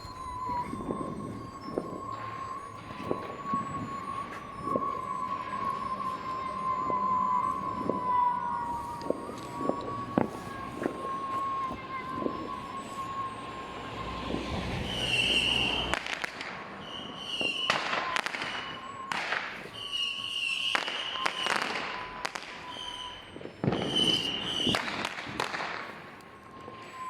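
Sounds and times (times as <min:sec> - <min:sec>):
fireworks bangs: 0:00.0 - 0:27.0
fireworks crackle: 0:00.0 - 0:27.0
high whistling tones: 0:00.0 - 0:27.0.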